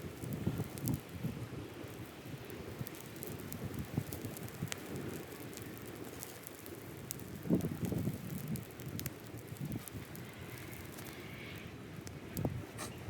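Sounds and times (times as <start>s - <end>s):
fire crackles and pops: 0.0s - 13.0s
flames rumbling: 0.0s - 13.0s.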